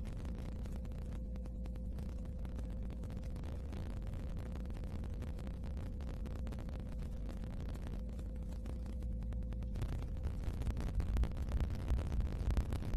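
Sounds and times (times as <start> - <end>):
faint crackles: 0.0 - 12.9
thin hum tone: 0.0 - 12.9.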